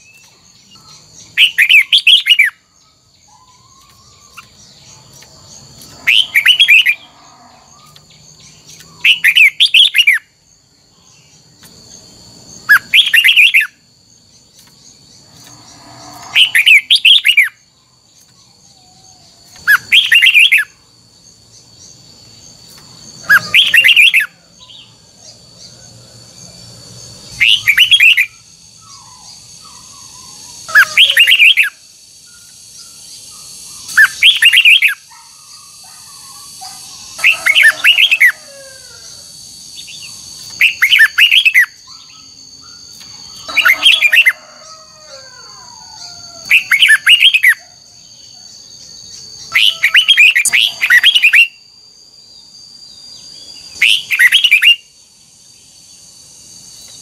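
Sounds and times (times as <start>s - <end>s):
bird singing warbled phrases: 0.0s - 10.4s, 11.0s - 25.8s, 27.1s - 39.2s, 39.8s - 44.5s, 45.1s - 51.7s, 53.0s - 54.9s.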